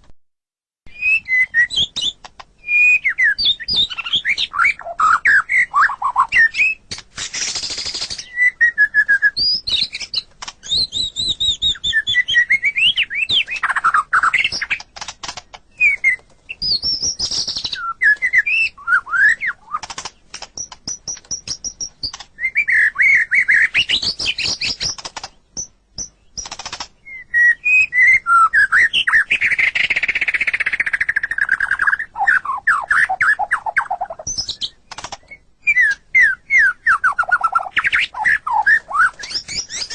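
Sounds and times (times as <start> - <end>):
songbird singing: 0.9 - 39.9.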